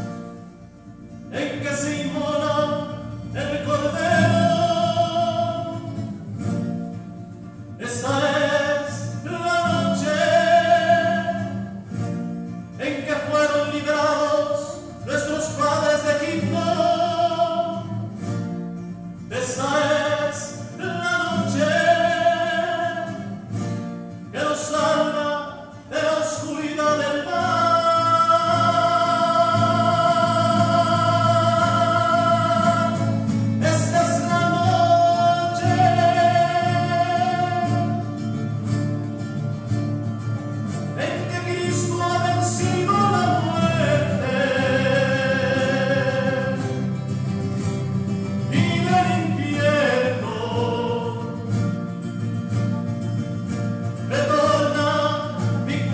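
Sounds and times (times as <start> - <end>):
church singing: 0.0 - 18.5, 19.1 - 39.3, 40.6 - 51.7, 53.9 - 55.9.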